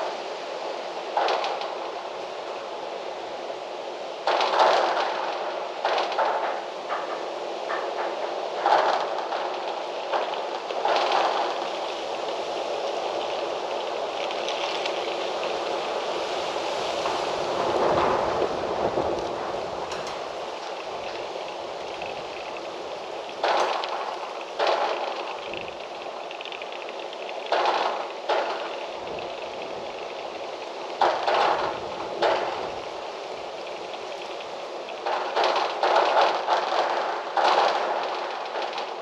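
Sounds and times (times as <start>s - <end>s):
wind blowing in gusts: 0.0s - 39.0s.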